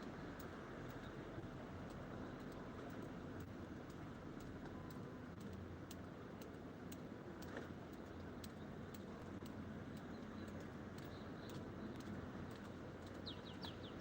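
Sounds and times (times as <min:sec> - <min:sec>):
light rain drops ticking: 0:00.0 - 0:14.0.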